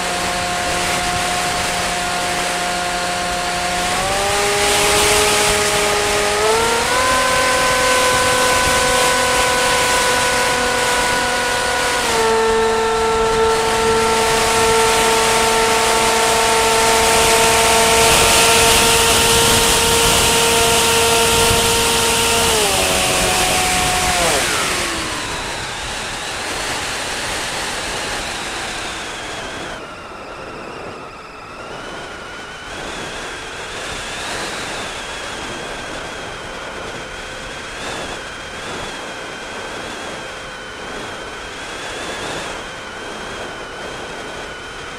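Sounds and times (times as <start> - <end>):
aircraft motor and propeller hum: 0.0 - 44.9
wind noise on microphone: 0.0 - 44.9.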